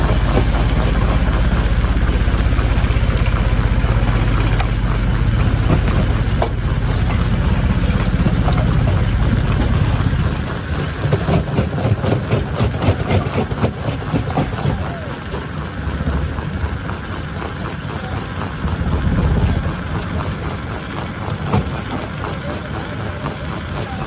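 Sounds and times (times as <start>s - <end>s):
stone crusher engine drone: 0.0s - 24.0s.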